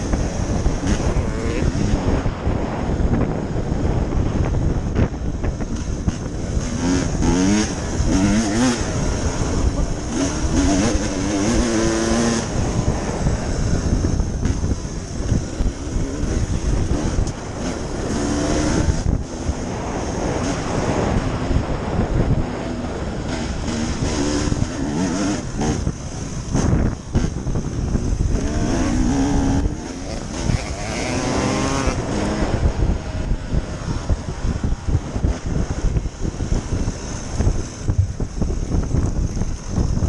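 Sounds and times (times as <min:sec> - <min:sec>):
constant rumble: 0:00.0 - 0:40.0
dirt bike engine revving: 0:00.0 - 0:40.0.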